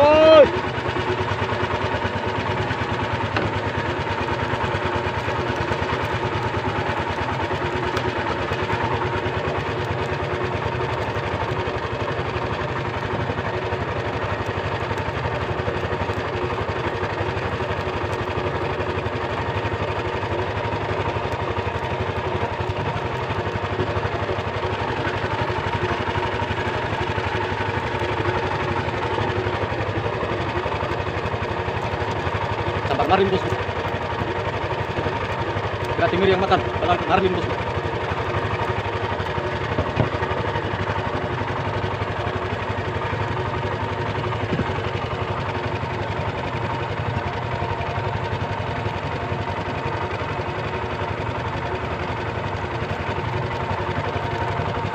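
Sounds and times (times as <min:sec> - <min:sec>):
boat engine running steadily: 0:00.0 - 0:54.9.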